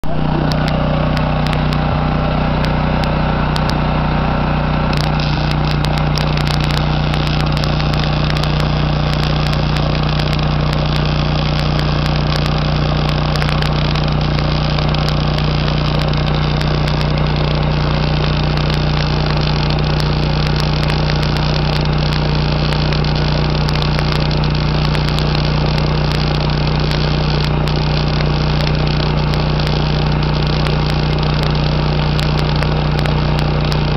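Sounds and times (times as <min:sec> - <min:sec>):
steady low drone: 0:00.0 - 0:33.9
welding arc crackling: 0:00.0 - 0:33.9.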